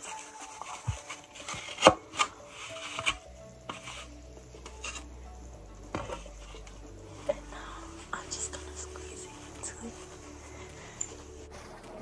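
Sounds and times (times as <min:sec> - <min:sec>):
cloth rubbing: 0:00.0 - 0:05.1, 0:05.9 - 0:12.0.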